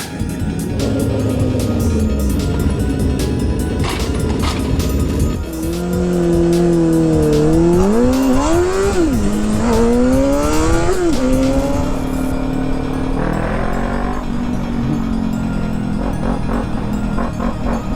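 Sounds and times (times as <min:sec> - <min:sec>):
vehicle engine accelerating: 0:00.3 - 0:17.9.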